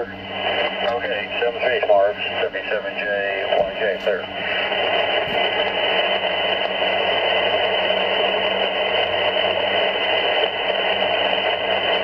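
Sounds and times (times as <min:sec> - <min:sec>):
radio band static: 0:00.0 - 0:12.0.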